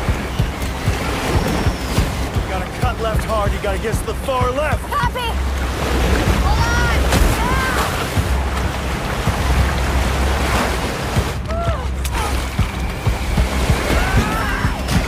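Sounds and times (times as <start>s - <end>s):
whitewater rapids rushing: 0.0s - 15.0s.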